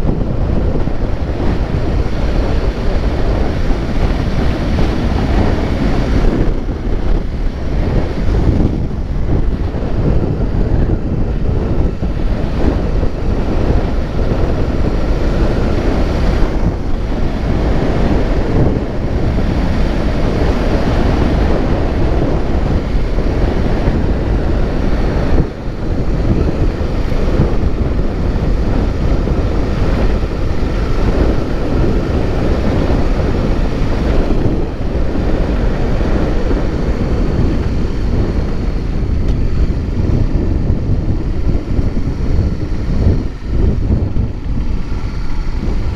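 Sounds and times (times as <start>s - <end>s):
vehicle rumble: 0.0s - 45.9s
wind buffeting microphone: 0.0s - 45.9s.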